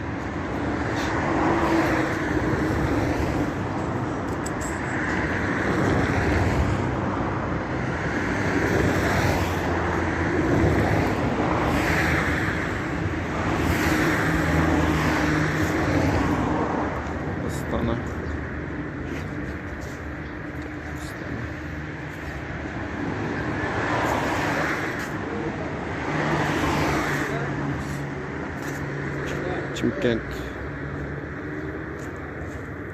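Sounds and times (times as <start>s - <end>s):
vehicles passing: 0.0s - 32.9s.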